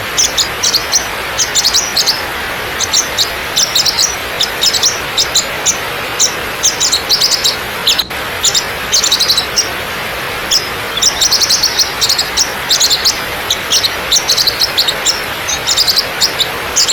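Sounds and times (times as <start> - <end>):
birds chirping: 0.0 - 16.9
waterfall rushing: 0.0 - 16.9.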